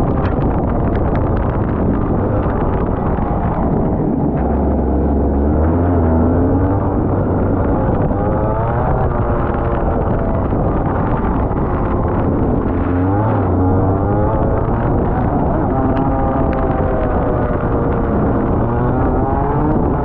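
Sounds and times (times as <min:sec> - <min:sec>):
kart engine revving: 0:00.0 - 0:20.0.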